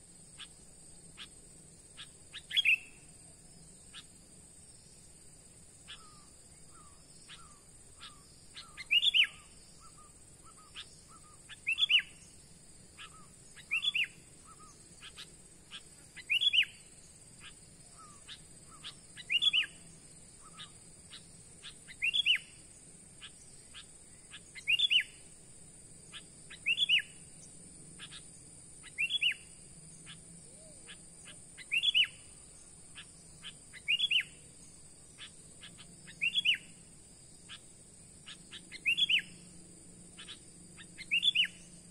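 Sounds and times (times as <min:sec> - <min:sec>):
high-pitched insect hum: 0:00.0 - 0:41.9.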